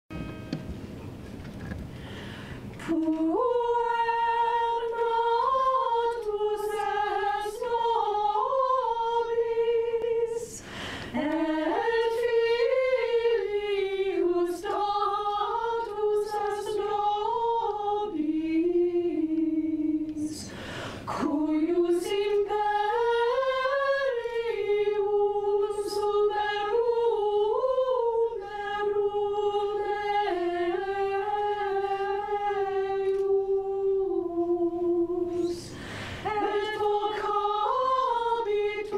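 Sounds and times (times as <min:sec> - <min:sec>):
women singing a cappella: 0:02.8 - 0:38.9.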